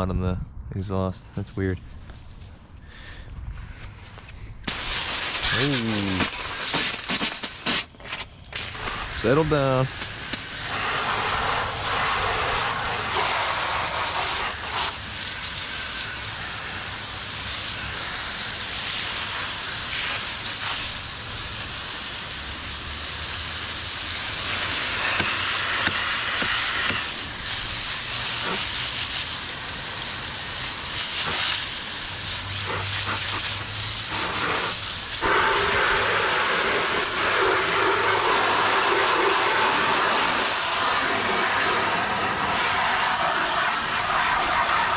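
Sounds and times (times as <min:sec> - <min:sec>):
water spraying hiss: 0:04.6 - 0:44.9.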